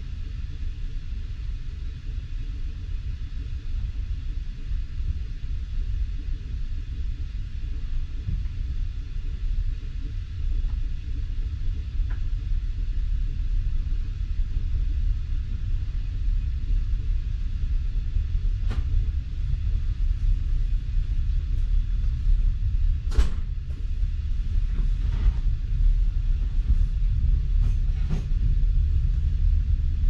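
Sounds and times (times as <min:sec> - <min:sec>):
train carriage low rumble: 0:00.0 - 0:30.0.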